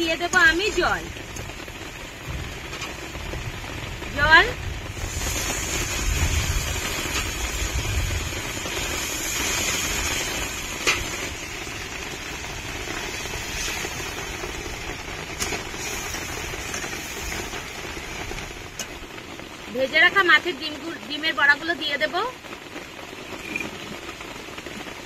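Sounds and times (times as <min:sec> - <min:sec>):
curry simmering and sizzling: 0:00.0 - 0:25.0.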